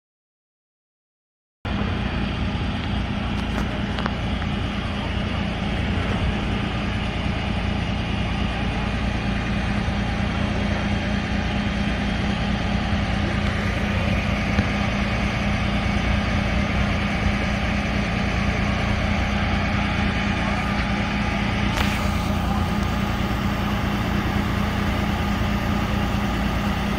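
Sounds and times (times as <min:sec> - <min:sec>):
truck engine idling: 0:01.7 - 0:26.9.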